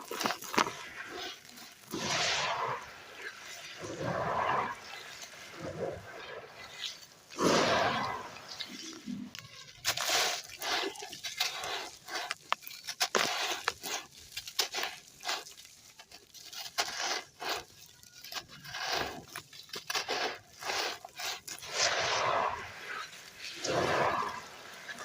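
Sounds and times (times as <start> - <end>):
sand crumbling and crackling in water: 0.0 - 25.0.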